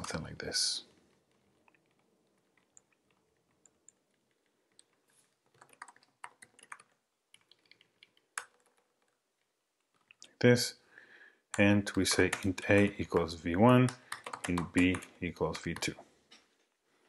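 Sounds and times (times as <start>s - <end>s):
faint keyboard typing: 0.0s - 10.4s, 11.5s - 16.8s.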